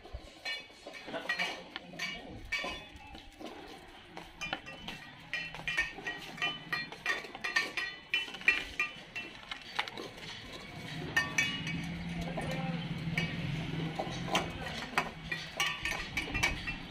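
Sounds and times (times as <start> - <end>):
metal dog bowls clinking: 0.1 - 16.9.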